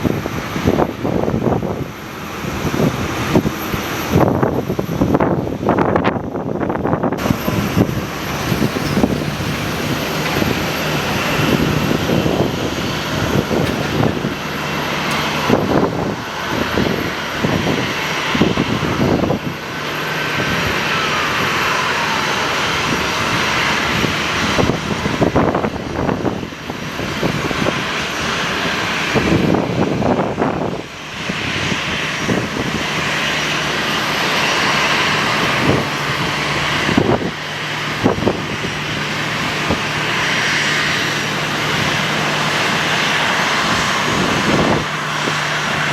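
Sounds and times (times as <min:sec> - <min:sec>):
aircraft engines passing: 0:00.0 - 0:45.9
wind buffeting microphone: 0:00.0 - 0:45.9.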